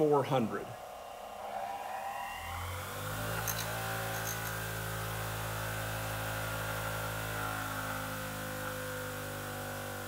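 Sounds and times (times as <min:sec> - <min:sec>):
bench grinder humming: 0:00.0 - 0:10.0.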